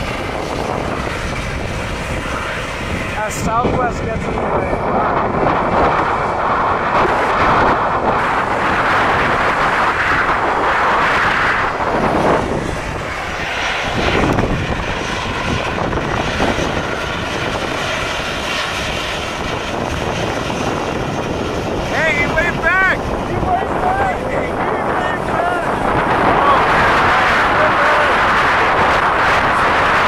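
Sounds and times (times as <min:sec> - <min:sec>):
jet engines running: 0:00.0 - 0:30.0.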